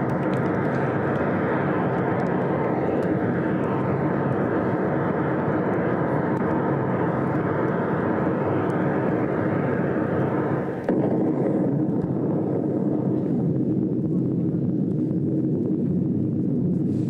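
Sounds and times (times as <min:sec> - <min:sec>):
loud roaring rush: 0:00.0 - 0:16.6.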